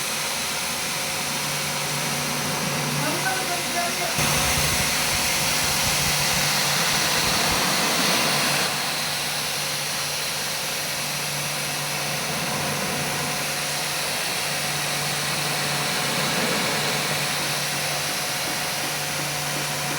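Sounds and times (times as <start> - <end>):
machine hissing and humming: 0.0 - 19.9.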